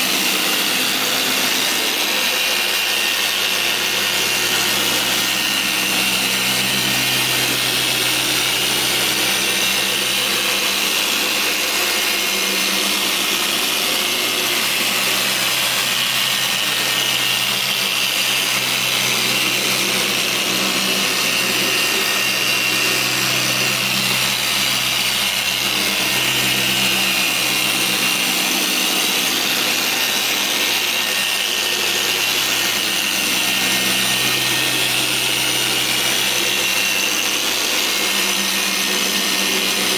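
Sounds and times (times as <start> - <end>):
machine polisher running: 0.0 - 39.9.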